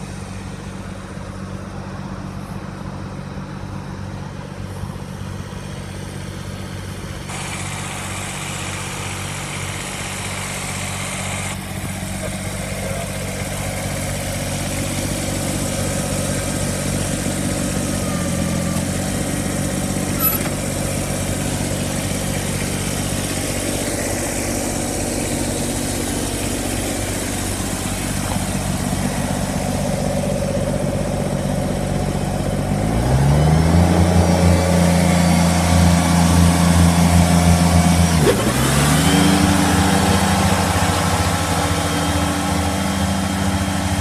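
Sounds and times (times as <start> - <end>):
tractor diesel engine idling and revving: 0.0 - 44.0.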